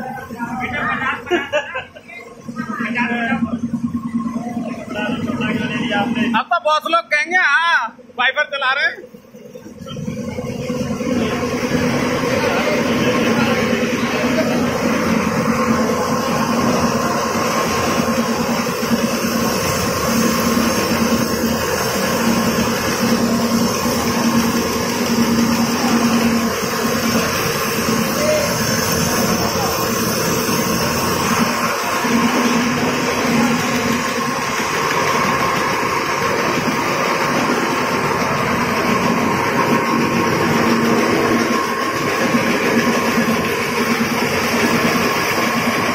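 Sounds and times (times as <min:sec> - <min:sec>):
motor hum: 0:00.0 - 0:45.9
rotating drum machine running: 0:00.0 - 0:45.9.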